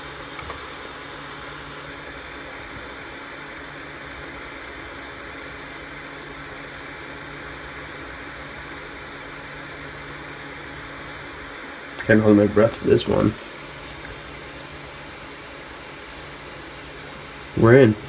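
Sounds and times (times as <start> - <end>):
computer fans whirring: 0.0 - 18.0.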